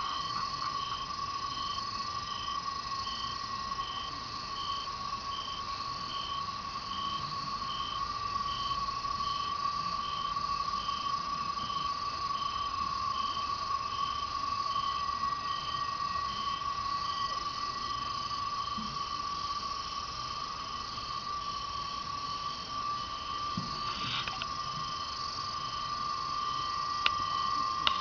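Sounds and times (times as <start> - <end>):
cicadas humming: 0.0 - 28.0
insects chirping: 0.0 - 28.0.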